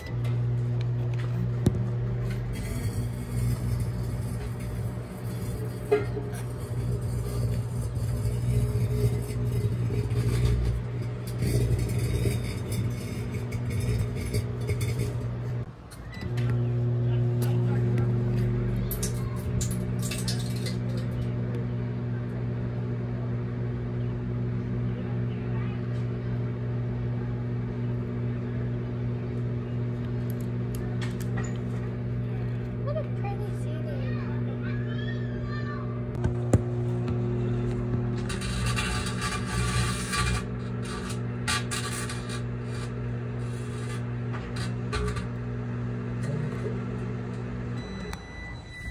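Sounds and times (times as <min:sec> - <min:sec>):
metal arcing crackling: 0:00.0 - 0:21.8, 0:29.0 - 0:47.8
microwave oven humming: 0:00.0 - 0:48.9.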